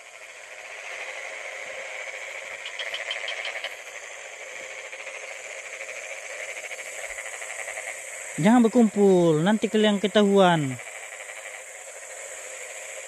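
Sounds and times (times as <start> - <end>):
insect chirping trill: 0.0 - 13.0
insects buzzing: 0.0 - 13.0.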